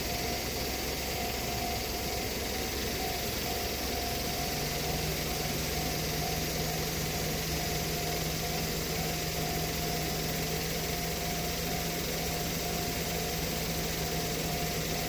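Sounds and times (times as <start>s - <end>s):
street noise: 0.0s - 15.0s
vehicle engine idling: 0.0s - 15.0s.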